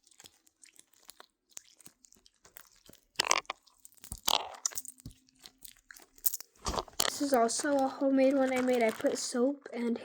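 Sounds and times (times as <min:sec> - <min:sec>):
bead-filled squishy clicking and crunching: 0:00.0 - 0:09.6.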